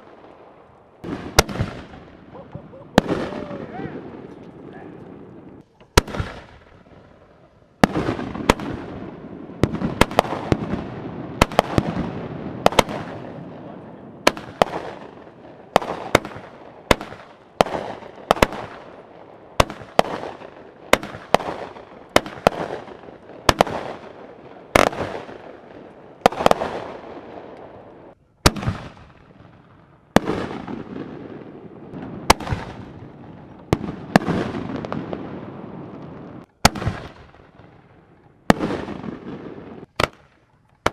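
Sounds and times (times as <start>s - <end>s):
fireworks bursting with bangs: 0.0s - 40.9s.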